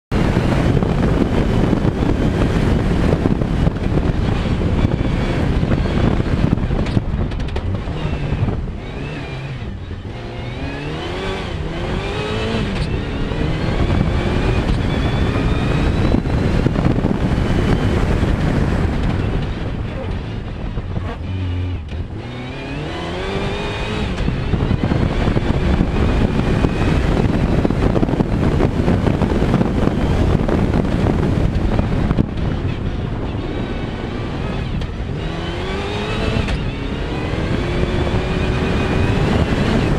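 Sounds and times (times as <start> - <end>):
road and wind noise: 0.0 - 39.9
rally car engine revving: 0.1 - 39.9.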